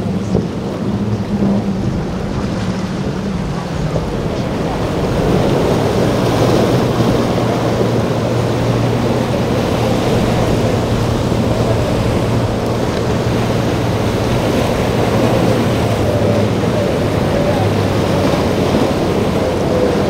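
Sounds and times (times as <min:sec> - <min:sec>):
boat engines humming: 0:00.0 - 0:20.0
waves: 0:00.0 - 0:20.0
wind buffeting microphone: 0:00.0 - 0:20.0.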